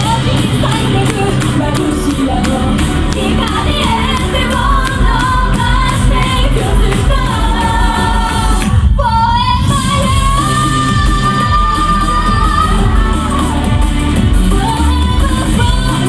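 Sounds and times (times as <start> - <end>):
band backing music: 0.0 - 16.0
woman singing pop song: 0.0 - 16.0.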